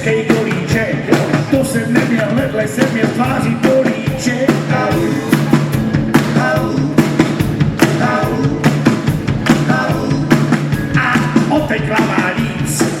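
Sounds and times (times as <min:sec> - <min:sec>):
drum kit beat: 0:00.0 - 0:13.0
live rock and roll band: 0:00.0 - 0:13.0.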